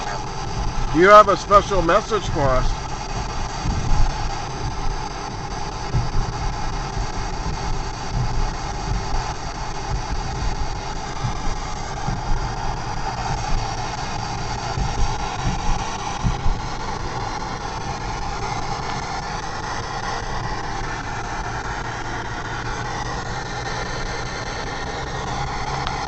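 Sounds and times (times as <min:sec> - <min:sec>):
short low thumps: 0:00.0 - 0:24.1
car rumbling in motion: 0:00.0 - 0:26.0
radio static hiss: 0:00.0 - 0:26.0.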